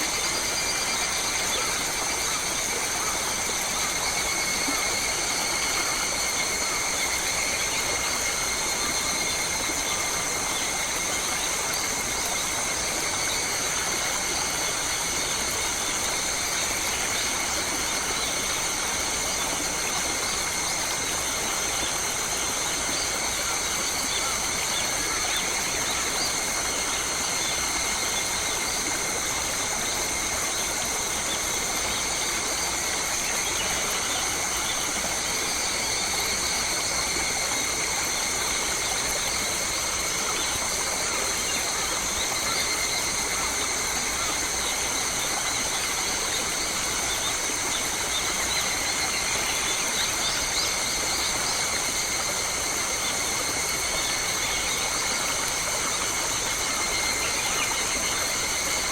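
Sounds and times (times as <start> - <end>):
insect chorus droning: 0.0 - 58.9.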